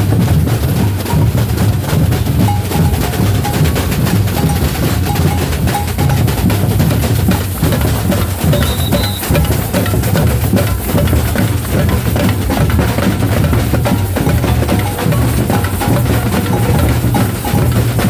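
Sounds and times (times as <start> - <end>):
deep bass drums: 0.0 - 18.0
samba drumming group: 0.0 - 18.0.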